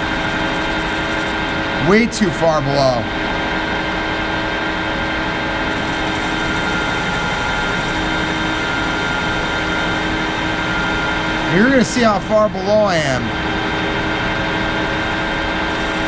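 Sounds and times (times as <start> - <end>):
metal lathe humming and whining: 0.0 - 16.0.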